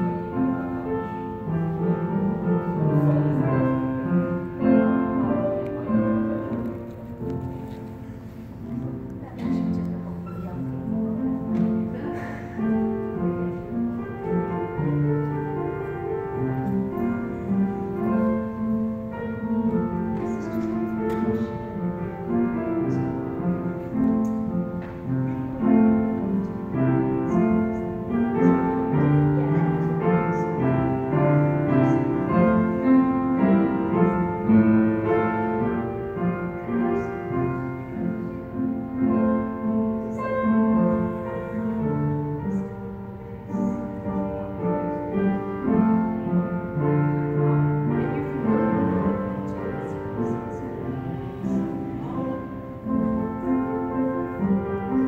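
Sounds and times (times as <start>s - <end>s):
classical piano piece: 0.0s - 55.0s.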